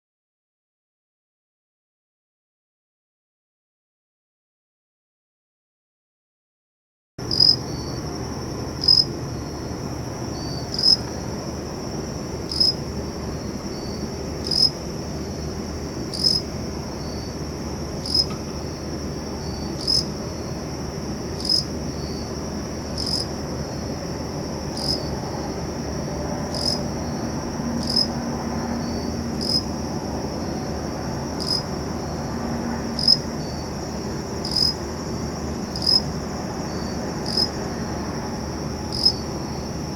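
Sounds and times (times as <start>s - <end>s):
crickets chirping: 7.2s - 39.9s.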